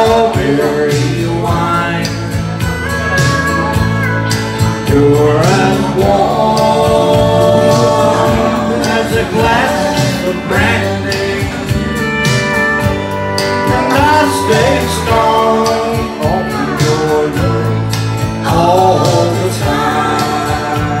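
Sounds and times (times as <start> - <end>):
guitar accompaniment: 0.0 - 21.0
man singing: 0.0 - 21.0.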